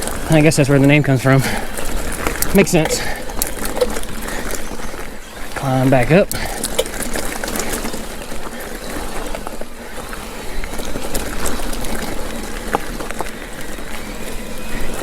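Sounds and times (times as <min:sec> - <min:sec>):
bike tyres on dirt trail: 0:00.0 - 0:15.0.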